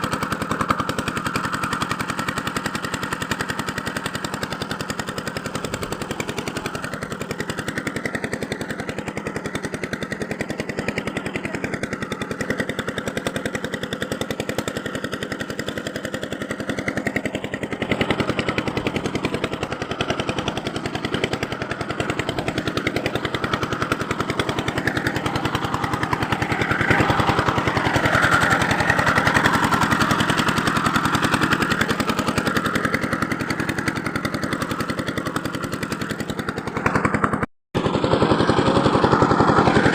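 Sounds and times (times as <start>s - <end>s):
power tool rattling: 0.0s - 39.9s.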